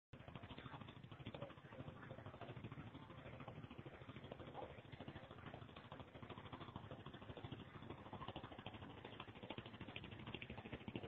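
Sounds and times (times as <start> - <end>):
fast clattering rattle: 0.2 - 11.0.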